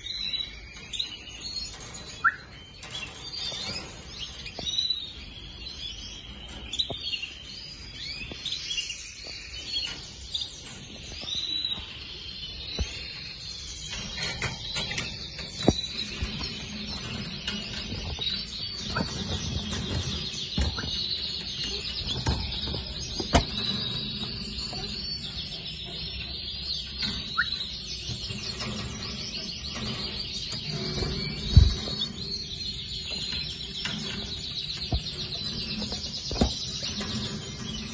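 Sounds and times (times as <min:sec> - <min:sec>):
chicks cheeping: 0:00.0 - 0:37.9.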